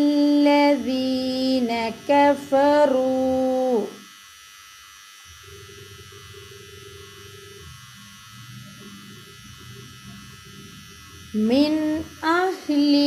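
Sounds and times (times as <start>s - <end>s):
faint steady hum and hiss: 0.0s - 13.0s.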